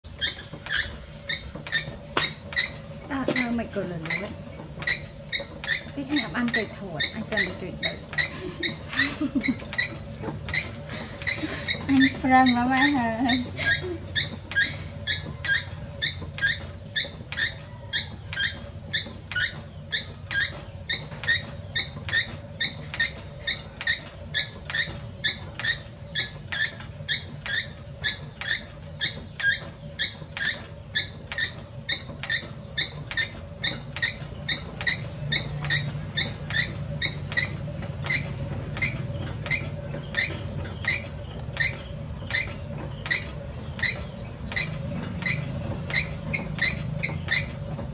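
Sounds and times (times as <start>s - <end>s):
potter's wheel squeaking: 0.0s - 47.9s.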